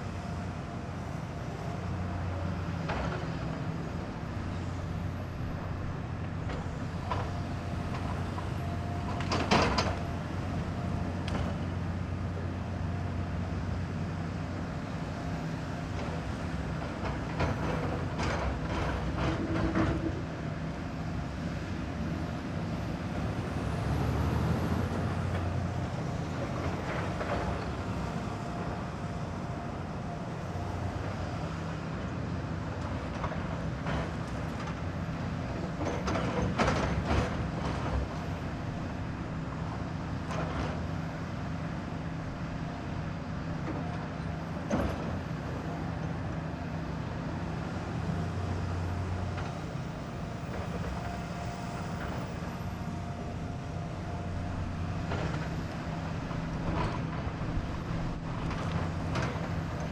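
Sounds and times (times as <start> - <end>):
diesel engine running: 0.0 - 20.0, 20.6 - 59.9.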